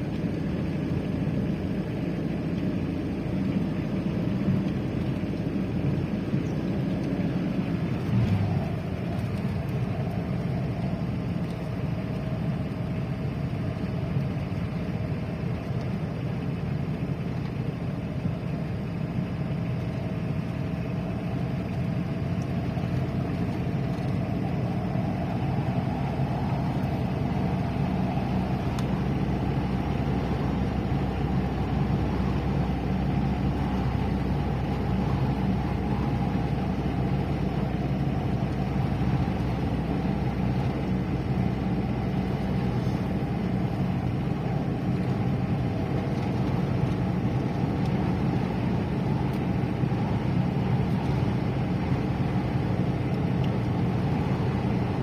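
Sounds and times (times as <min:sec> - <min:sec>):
car engine hum: 0:00.0 - 0:55.0
road rumble: 0:00.0 - 0:55.0.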